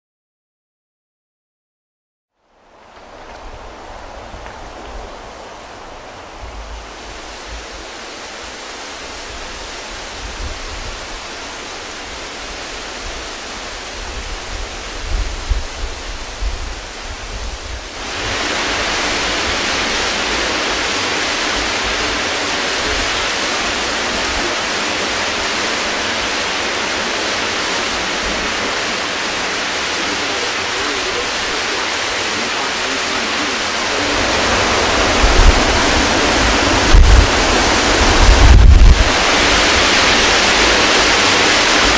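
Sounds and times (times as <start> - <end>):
storm wind through palm trees: 2.4 - 41.9
surging sea: 2.5 - 41.9
wind gusting on microphone: 2.6 - 41.9.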